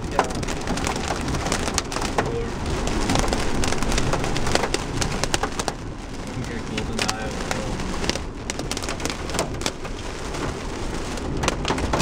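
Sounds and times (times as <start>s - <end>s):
heavy rain on car windshield: 0.0s - 12.0s.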